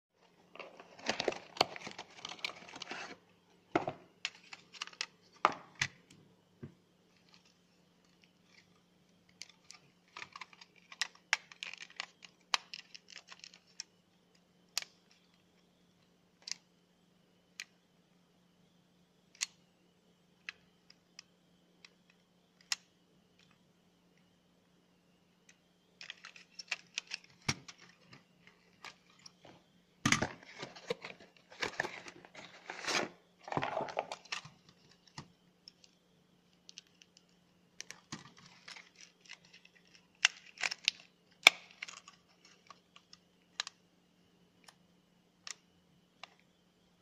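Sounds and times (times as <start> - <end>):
faint steady high tone: 0.2 - 47.0
low steady hum: 0.2 - 47.0.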